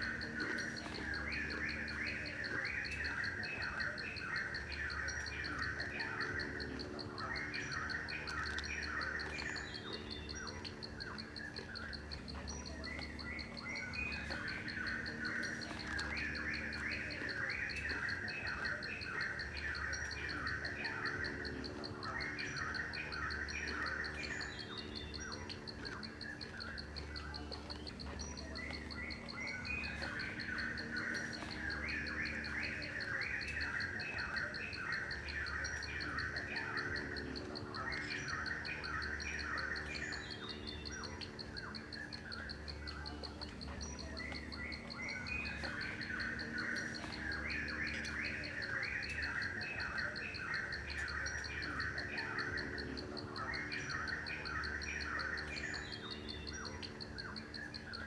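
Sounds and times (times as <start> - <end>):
birds chirping: 0.0 - 58.0
rapid insect trill: 0.0 - 58.0.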